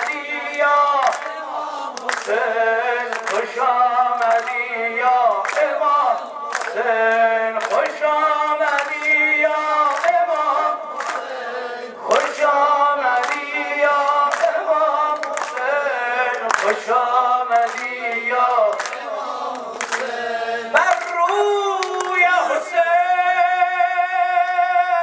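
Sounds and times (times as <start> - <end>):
man chanting into microphone: 0.0 - 11.0, 11.9 - 19.8, 20.7 - 25.0.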